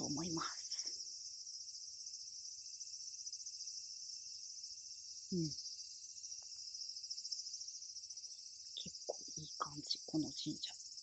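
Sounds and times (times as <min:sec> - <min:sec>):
cicadas chorus: 0:00.0 - 0:11.0.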